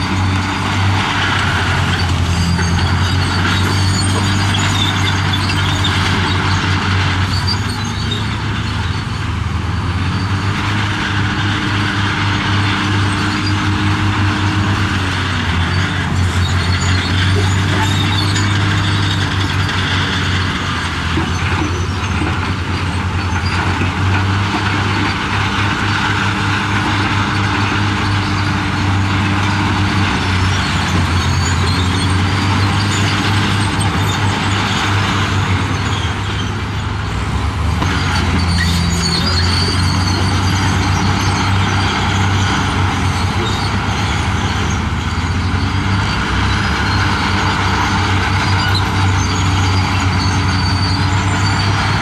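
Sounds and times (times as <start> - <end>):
diesel engine revving: 0.0 - 52.0.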